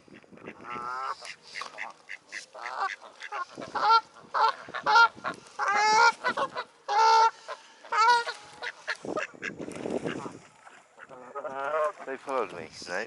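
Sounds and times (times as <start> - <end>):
geese honking: 0.4 - 12.3.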